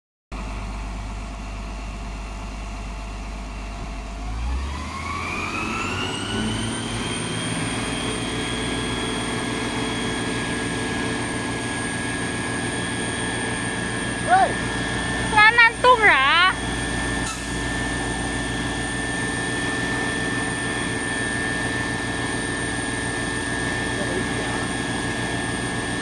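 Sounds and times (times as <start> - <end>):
diesel engine driving fire pump: 0.3 - 26.0
rising engine whine: 0.4 - 26.0.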